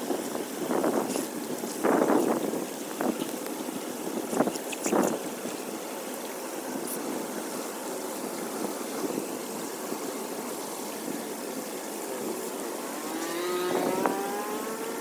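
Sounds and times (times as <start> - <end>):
water rushing into street drain: 0.0 - 15.0.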